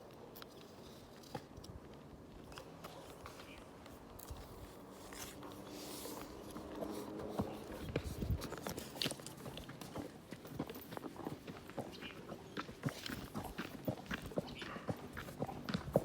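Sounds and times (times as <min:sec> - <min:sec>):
horse chewing grass: 0:02.5 - 0:16.0.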